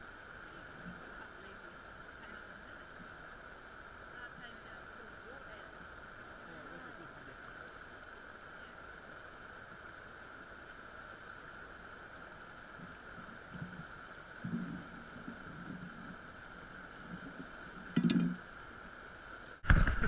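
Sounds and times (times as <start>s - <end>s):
river running over stones: 0.0s - 20.0s.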